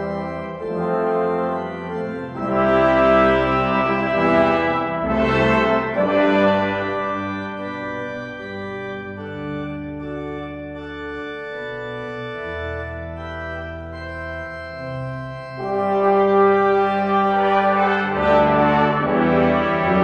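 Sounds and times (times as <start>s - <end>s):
brass ensemble playing: 0.0s - 20.0s
organ sustained chords: 0.0s - 20.0s.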